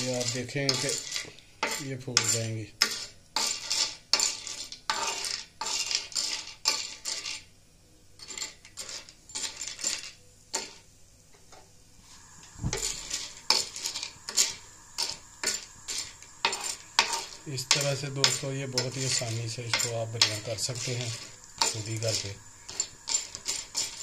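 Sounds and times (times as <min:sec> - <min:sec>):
steel spoon scraping iron pan: 0:00.0 - 0:07.5, 0:08.2 - 0:10.8, 0:12.6 - 0:24.0.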